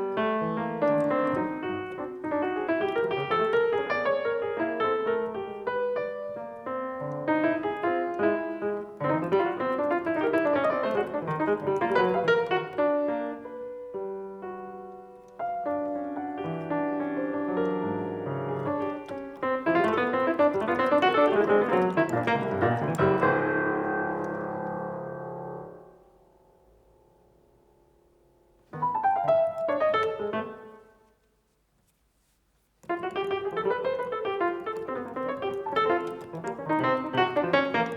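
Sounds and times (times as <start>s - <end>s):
piano playing flowing runs: 0.0s - 26.0s, 28.6s - 30.9s, 32.8s - 37.9s.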